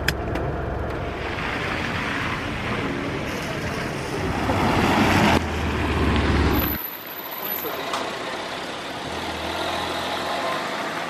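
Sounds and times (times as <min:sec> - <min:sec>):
wet-road noise: 0:00.0 - 0:11.0.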